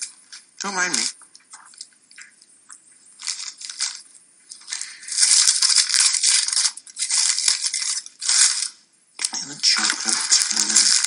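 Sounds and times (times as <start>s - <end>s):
foil wrapper crinkling: 0.0s - 2.5s, 3.2s - 11.0s.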